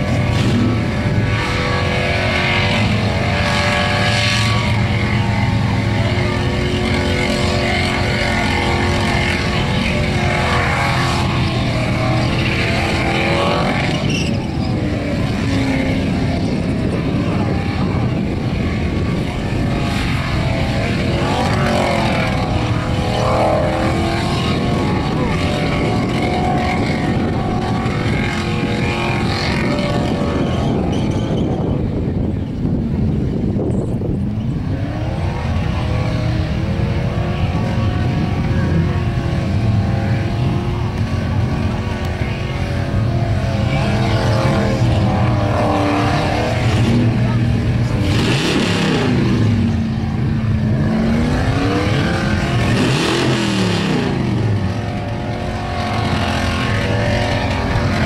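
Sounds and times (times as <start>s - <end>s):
car engine revving high: 0.0s - 58.0s
tyres spinning on road: 0.0s - 58.0s.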